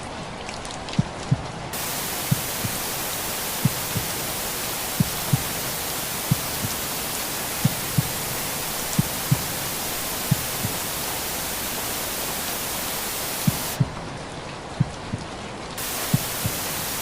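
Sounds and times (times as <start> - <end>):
rain hiss: 0.0 - 17.0
heartbeat thumps: 1.0 - 14.0, 14.8 - 17.0.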